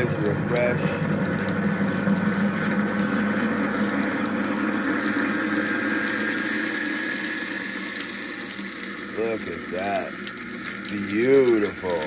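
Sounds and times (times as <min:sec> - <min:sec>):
garbage disposal humming: 0:00.0 - 0:12.0.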